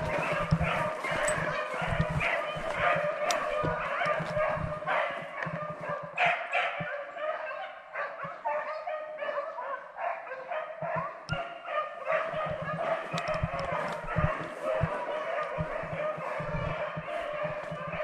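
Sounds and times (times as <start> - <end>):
pack of hounds baying: 0.0 - 18.0.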